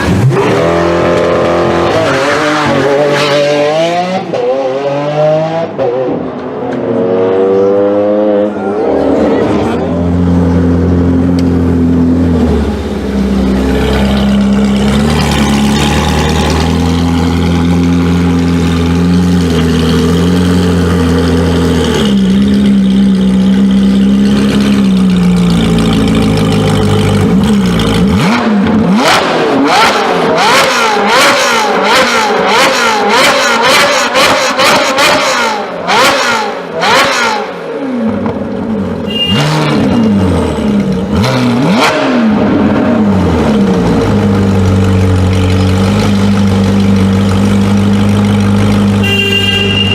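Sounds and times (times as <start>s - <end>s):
car engine revving: 0.0s - 49.1s.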